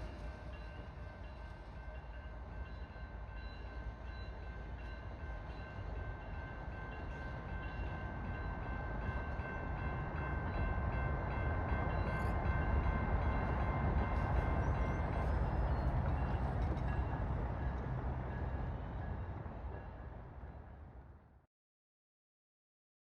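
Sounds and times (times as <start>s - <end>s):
diesel locomotive engine rumble: 0.0s - 21.3s.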